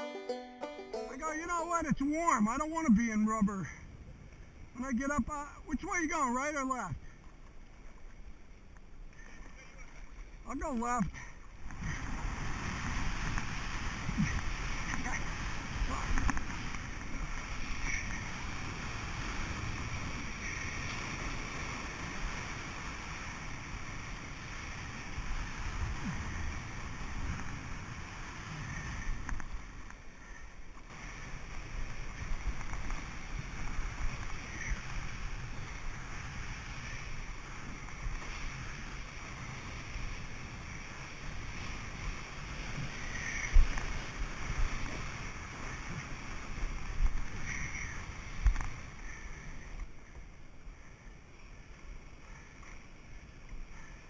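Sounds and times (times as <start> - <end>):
water sloshing along hull: 7.0 - 10.4, 11.1 - 54.0.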